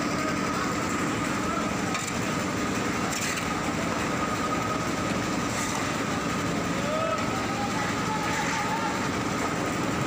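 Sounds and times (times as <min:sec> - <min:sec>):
machinery humming with thin whine: 0:00.0 - 0:10.0.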